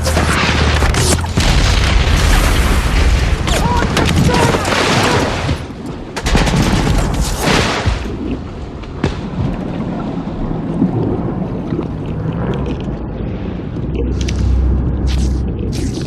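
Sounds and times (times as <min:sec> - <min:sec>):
low rumbling with crackles: 0:00.0 - 0:16.0.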